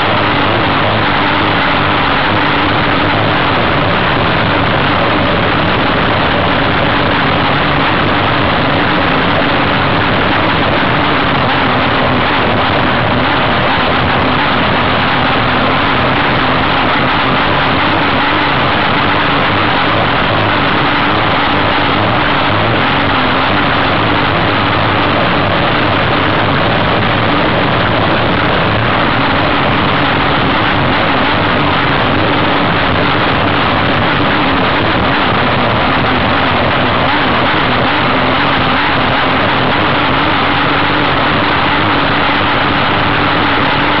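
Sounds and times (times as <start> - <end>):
hydroplane engine running: 0.0 - 44.0.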